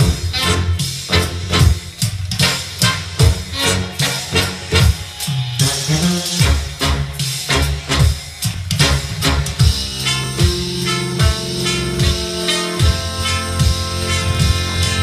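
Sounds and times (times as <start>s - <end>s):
drum and guitar music on loudspeakers: 0.0s - 15.0s.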